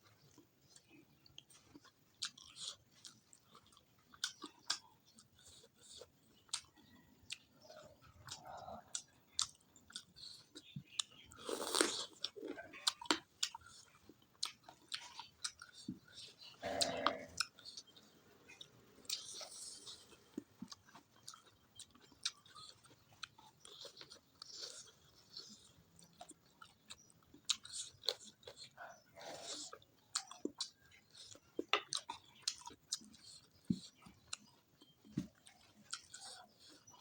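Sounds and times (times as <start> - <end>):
chewing with wet clicks and crunches: 0.0 - 37.0.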